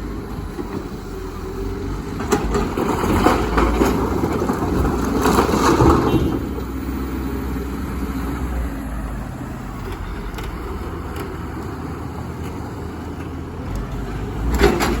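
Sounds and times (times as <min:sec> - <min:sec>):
excavator running with low rumble: 0:00.0 - 0:15.0.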